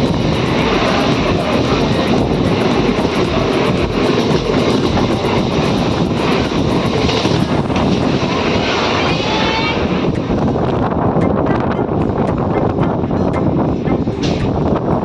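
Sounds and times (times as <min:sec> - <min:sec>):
train rumbling and rattling: 0:00.0 - 0:15.0.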